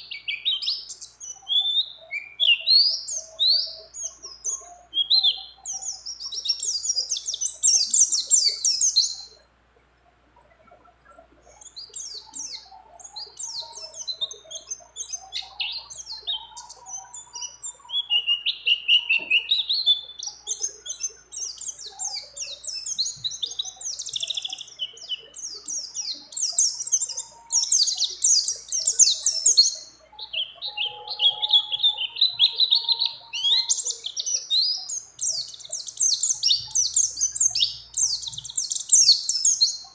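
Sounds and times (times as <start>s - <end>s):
bird singing high chattering trills: 0.0s - 9.6s, 10.3s - 39.9s.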